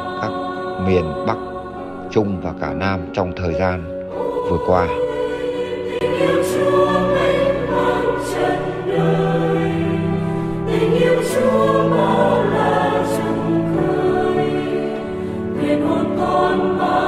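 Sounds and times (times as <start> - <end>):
choir singing sustained notes: 0.0 - 17.0.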